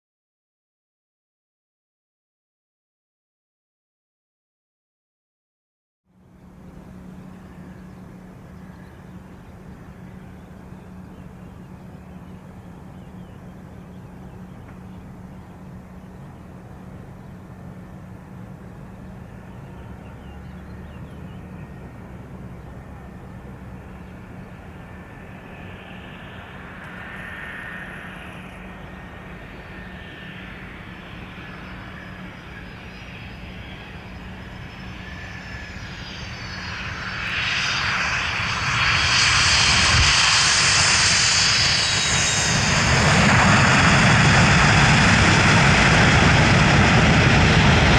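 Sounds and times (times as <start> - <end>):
jet engine rumble: 6.1 - 47.9
turbofan whine: 6.1 - 47.9.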